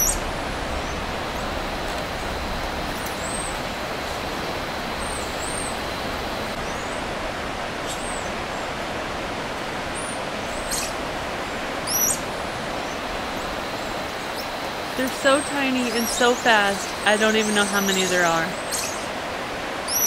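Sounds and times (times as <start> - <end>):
steady rushing hiss: 0.0 - 20.0.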